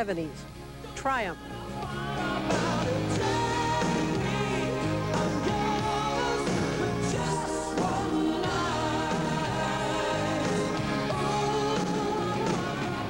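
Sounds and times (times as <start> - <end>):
rock band music: 0.0 - 13.0
sung lead vocal: 0.1 - 13.0.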